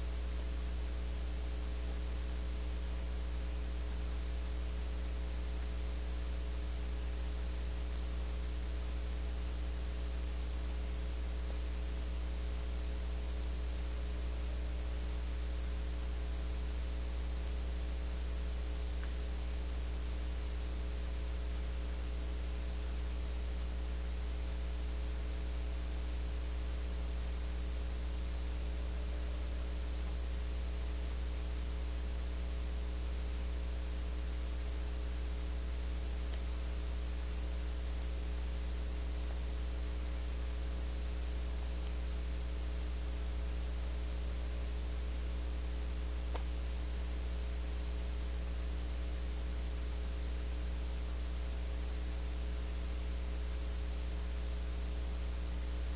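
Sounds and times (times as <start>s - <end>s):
electrical mains hum: 0.0s - 55.9s.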